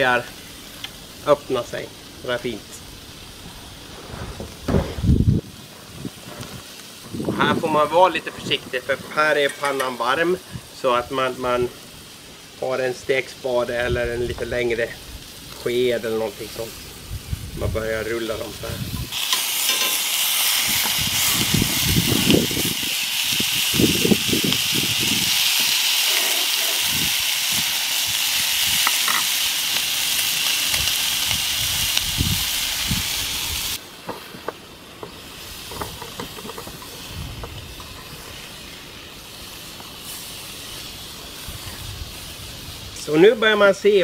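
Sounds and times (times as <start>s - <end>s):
sausages sizzling in frying pan: 0.0s - 44.0s.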